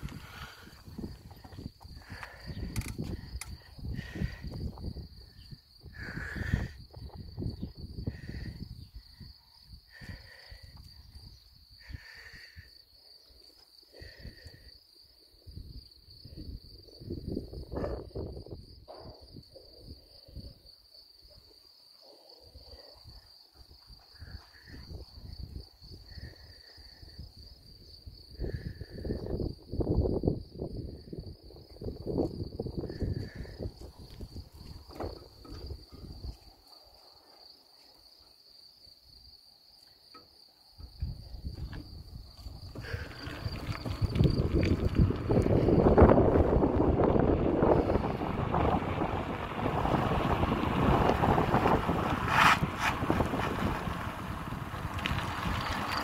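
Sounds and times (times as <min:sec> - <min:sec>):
wind rumbling on microphone: 0:00.0 - 0:12.7, 0:15.4 - 0:20.8, 0:22.7 - 0:36.6, 0:40.8 - 0:56.0
crickets trilling: 0:00.0 - 0:56.0.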